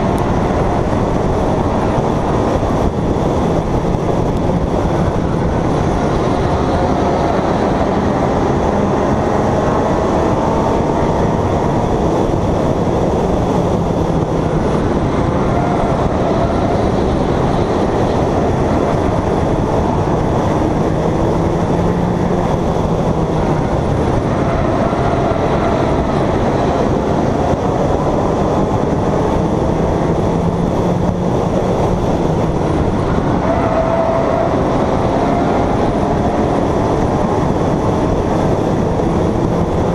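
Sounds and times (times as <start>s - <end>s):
race car engine under load: 0.0s - 39.9s
wind and road noise: 0.0s - 39.9s.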